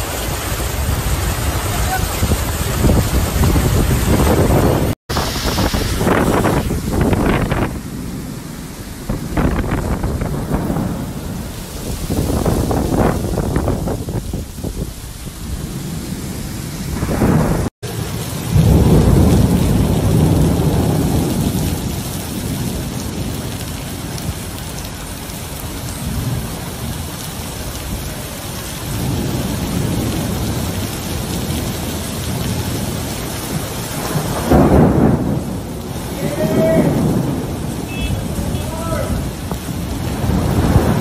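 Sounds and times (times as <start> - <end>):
thunder rumbling: 0.0 - 41.0
torrential rain pouring: 0.0 - 41.0.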